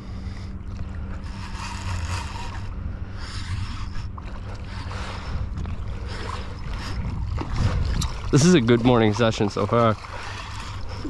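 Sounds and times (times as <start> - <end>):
steady low hum: 0.0 - 11.0
wind and water hiss: 0.0 - 11.0.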